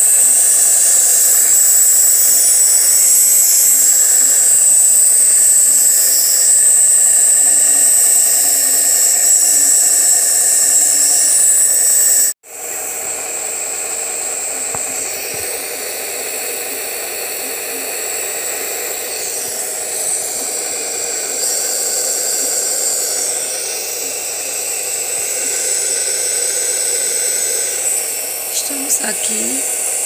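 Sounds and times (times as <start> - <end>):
nebulizer compressor whirring: 0.0 - 30.0.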